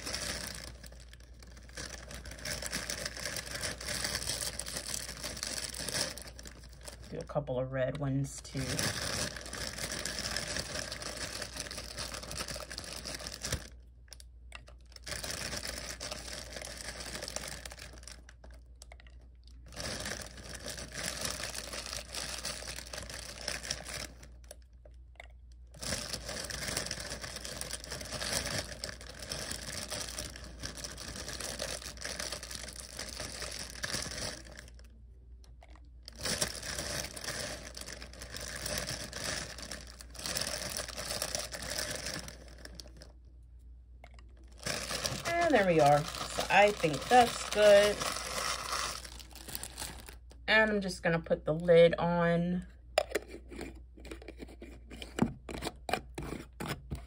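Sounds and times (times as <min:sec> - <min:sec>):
plastic bag crinkling: 0:00.0 - 0:25.0, 0:25.6 - 0:35.0, 0:35.6 - 0:43.2, 0:44.0 - 0:50.8.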